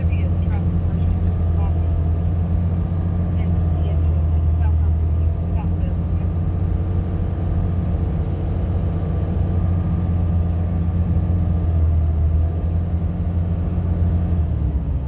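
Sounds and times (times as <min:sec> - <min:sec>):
car engine drone: 0:00.0 - 0:15.0
tyres on road: 0:00.0 - 0:15.0.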